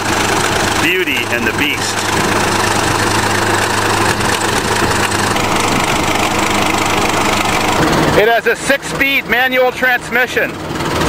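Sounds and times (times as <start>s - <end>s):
bulldozer engine idling: 0.0s - 11.0s.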